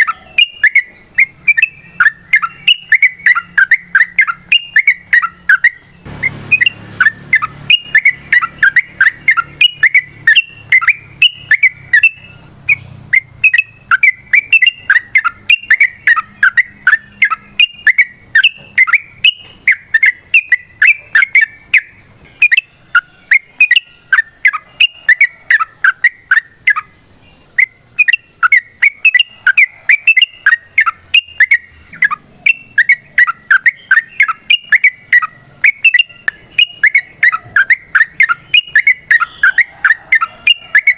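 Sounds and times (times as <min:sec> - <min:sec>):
bulbul rapid chirping song: 0:00.0 - 0:40.9.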